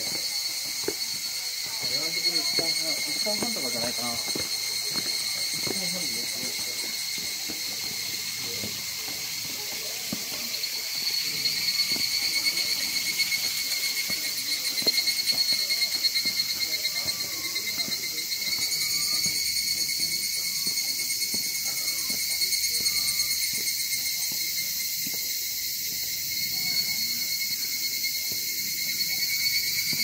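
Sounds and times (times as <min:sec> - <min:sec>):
insects shrilling: 0:00.0 - 0:30.0.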